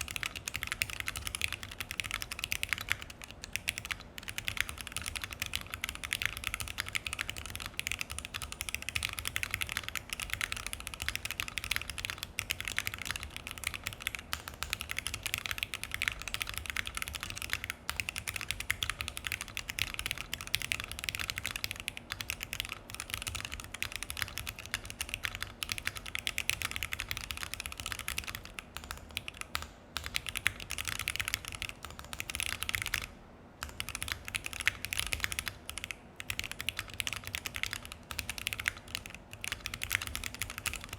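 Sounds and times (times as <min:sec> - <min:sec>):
typing on mechanical keyboard: 0:00.0 - 0:40.9.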